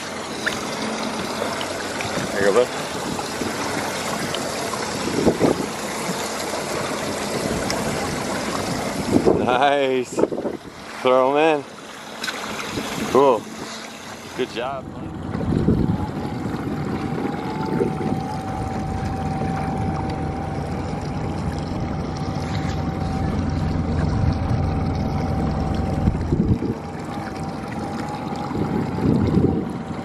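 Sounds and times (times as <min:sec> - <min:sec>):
outboard motor droning: 0:00.0 - 0:30.0
water against hull: 0:00.0 - 0:30.0.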